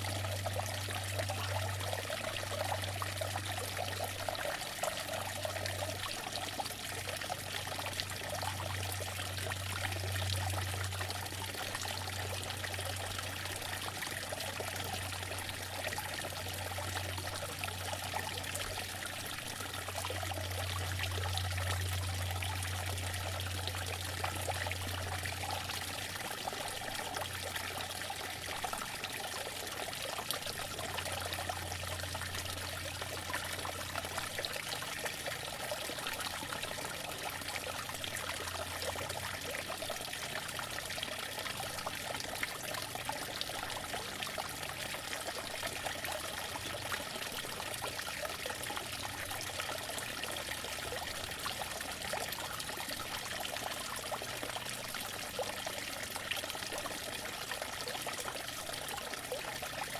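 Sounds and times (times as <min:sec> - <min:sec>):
fountain water splashing: 0:00.0 - 0:59.9.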